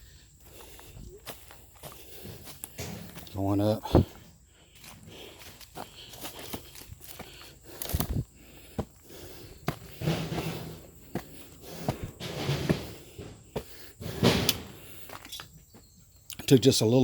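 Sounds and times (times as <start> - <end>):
footsteps climbing over debris: 0.0 - 16.5.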